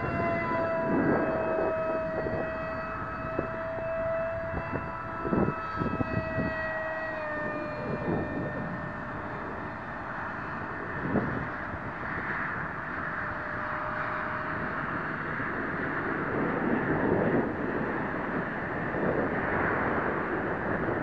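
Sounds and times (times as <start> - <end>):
rc plane motor whining: 0.9 - 17.9.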